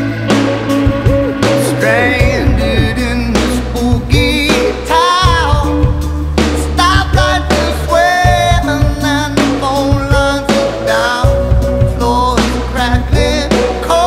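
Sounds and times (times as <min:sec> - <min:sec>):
rock song with singing: 0:00.0 - 0:14.0.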